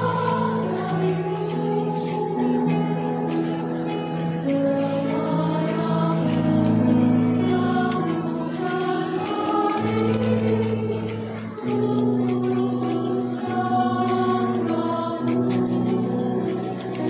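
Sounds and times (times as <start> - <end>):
mixed choir singing held chords: 0.0 - 17.0.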